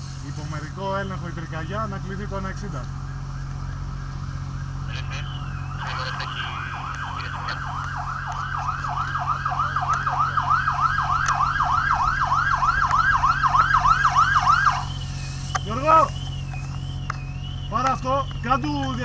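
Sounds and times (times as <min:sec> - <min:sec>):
steady low hum: 0:00.0 - 0:19.0
faint slower siren wail: 0:01.0 - 0:19.0
siren yelping: 0:01.6 - 0:19.0.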